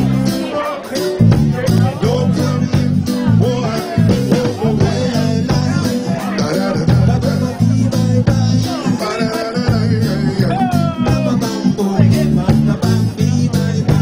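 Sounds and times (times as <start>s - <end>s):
live reggae band instrumental: 0.0s - 14.0s.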